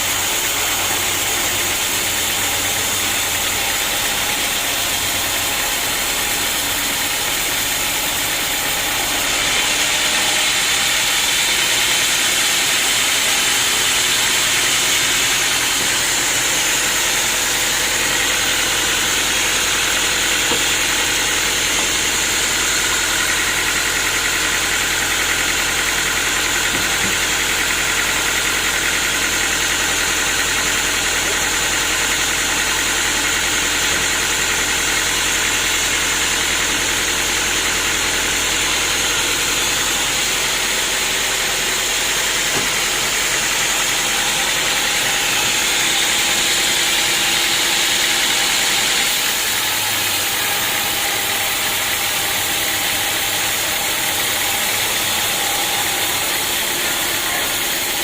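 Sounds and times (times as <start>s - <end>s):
sawmill machinery with high whine: 0.0s - 58.0s.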